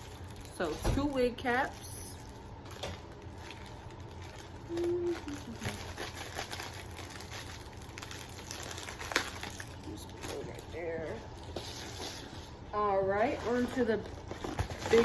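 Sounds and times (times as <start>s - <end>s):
packaging rustling: 0.0s - 0.8s, 1.5s - 15.0s.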